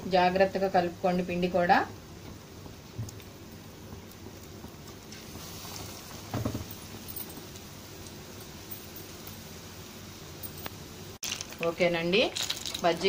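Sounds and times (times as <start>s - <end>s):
chillies deep-frying in oil: 0.0s - 13.0s.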